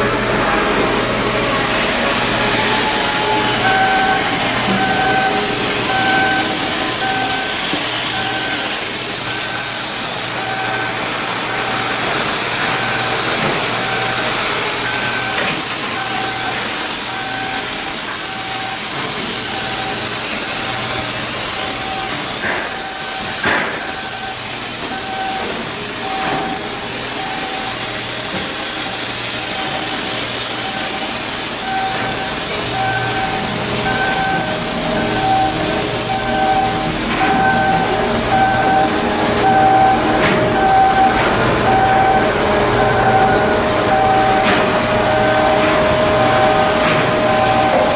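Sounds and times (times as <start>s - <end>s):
beeping tone pulses: 0.0s - 47.9s
machinery noise with hiss: 0.0s - 47.9s.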